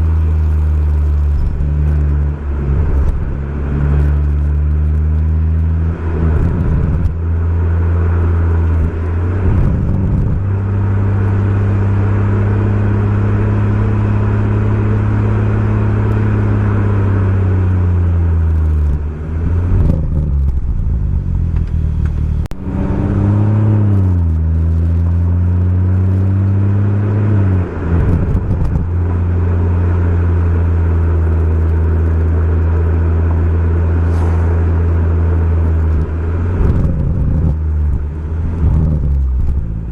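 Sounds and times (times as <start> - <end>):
car engine under load: 0.0 - 39.9
gear changes: 0.0 - 39.9.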